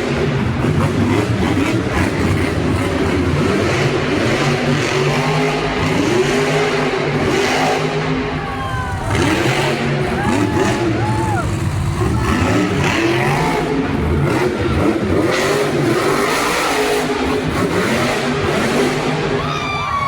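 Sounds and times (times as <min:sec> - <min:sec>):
truck engine revving loud: 0:00.0 - 0:19.9
arena noise: 0:03.9 - 0:20.0.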